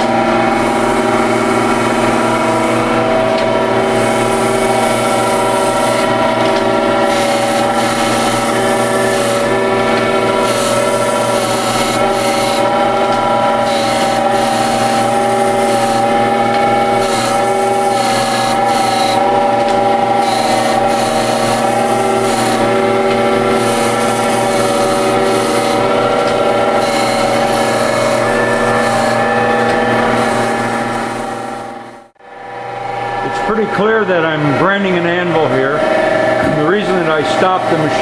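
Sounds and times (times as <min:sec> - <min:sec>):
grinding wheel on steel: 0:00.0 - 0:38.0
motor hum: 0:00.0 - 0:38.0.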